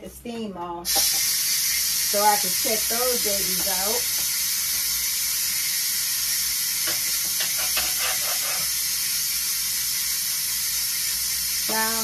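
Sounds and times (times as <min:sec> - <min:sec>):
pressure cooker steam hiss: 0:00.9 - 0:12.0.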